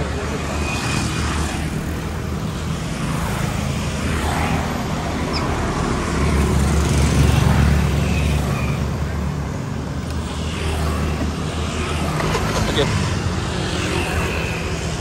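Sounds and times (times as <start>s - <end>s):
road and traffic noise: 0.0s - 15.0s.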